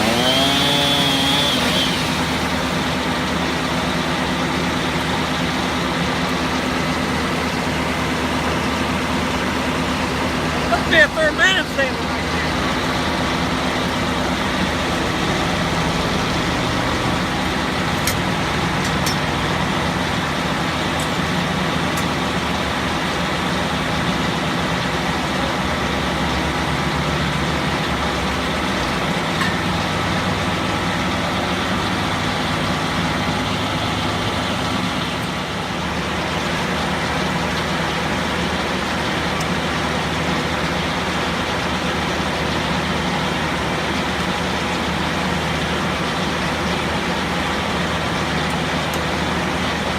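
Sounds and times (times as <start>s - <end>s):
sawmill machinery humming: 0.0s - 49.9s.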